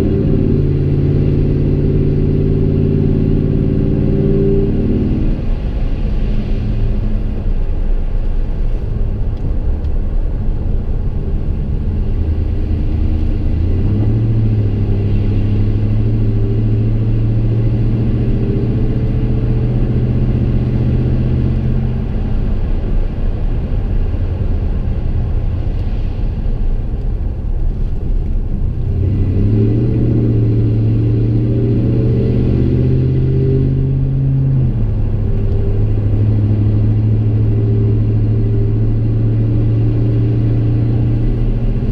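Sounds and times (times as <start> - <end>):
engine exhaust drone inside car: 0.0 - 41.9.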